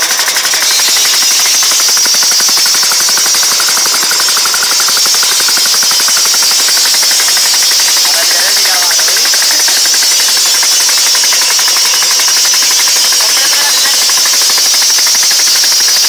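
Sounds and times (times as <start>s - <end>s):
small engine chattering: 0.0s - 16.0s.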